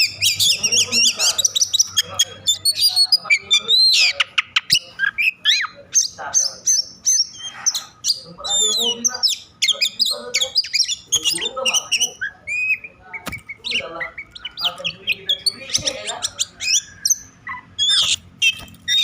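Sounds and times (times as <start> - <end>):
bird harsh chattering: 0.0 - 19.0.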